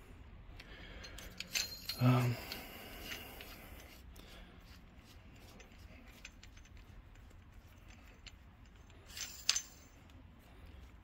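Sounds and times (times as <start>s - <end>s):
metallic clicks and scraping: 0.6s - 11.0s.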